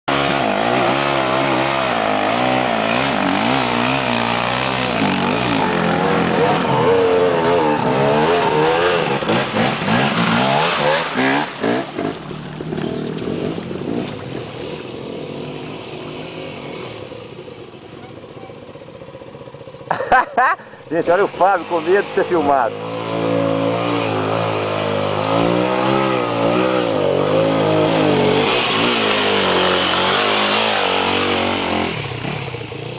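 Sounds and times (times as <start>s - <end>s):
motorcycle engines revving: 0.0s - 32.9s.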